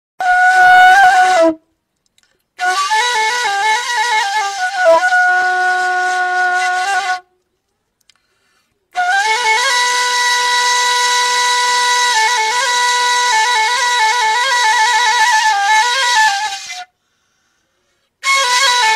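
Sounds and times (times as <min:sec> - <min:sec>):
flute-like wind instrument melody: 0:00.2 - 0:01.8, 0:02.6 - 0:07.5, 0:08.9 - 0:17.0, 0:18.2 - 0:18.9.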